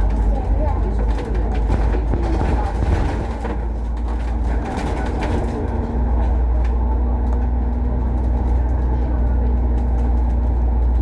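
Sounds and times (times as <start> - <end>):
bus engine drone: 0.0 - 11.0
road rumble: 0.0 - 11.0.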